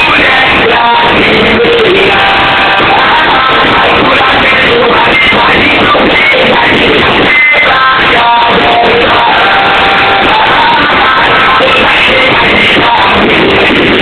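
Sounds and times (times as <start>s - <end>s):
loud rock music with singing: 0.0s - 14.0s.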